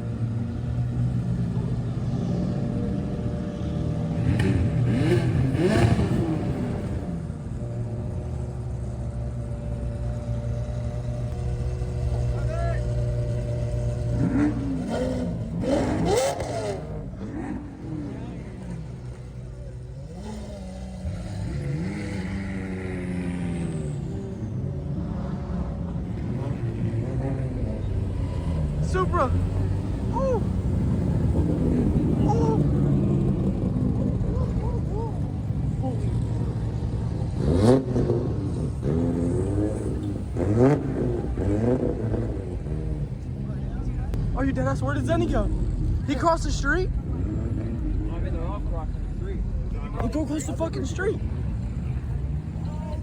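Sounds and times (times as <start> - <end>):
idling traffic rumble: 0.0 - 53.0
car engine revving in blips: 0.3 - 53.0.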